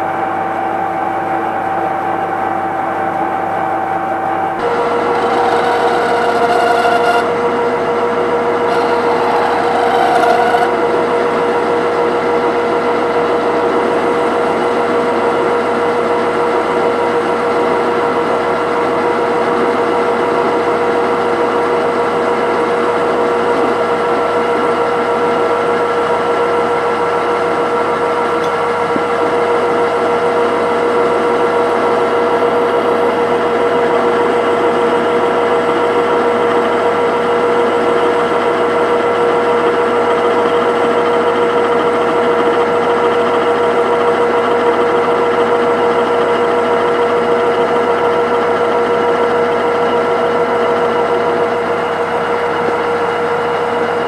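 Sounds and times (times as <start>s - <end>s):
constant mechanical hum: 0.0s - 54.0s
lathe machine whine: 0.0s - 54.0s.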